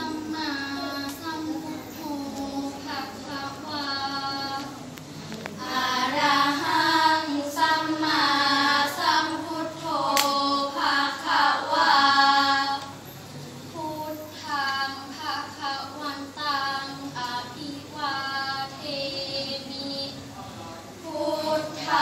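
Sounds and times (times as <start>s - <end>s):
girls chanting in unison: 0.0s - 4.8s, 5.6s - 13.0s, 13.7s - 22.0s.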